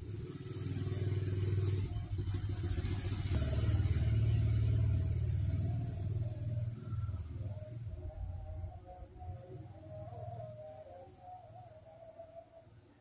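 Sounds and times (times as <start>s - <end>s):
vehicle engine running: 0.0s - 10.6s
insects trilling: 0.0s - 13.0s.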